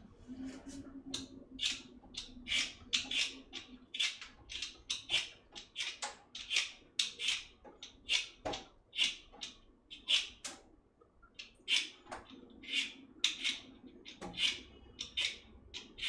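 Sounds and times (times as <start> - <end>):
peeler scraping potato: 1.1 - 10.5, 11.4 - 16.0.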